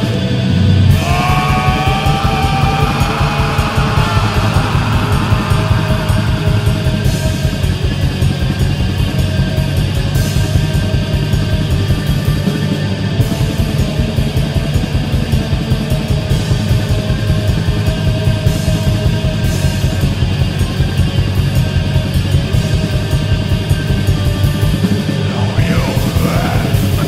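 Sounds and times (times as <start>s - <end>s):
distorted guitars: 0.0s - 27.0s
fast drumming: 0.9s - 27.0s.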